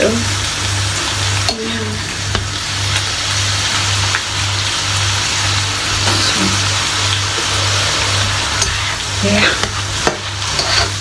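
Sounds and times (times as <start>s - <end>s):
bacon sizzling in a frying pan: 0.0s - 11.0s.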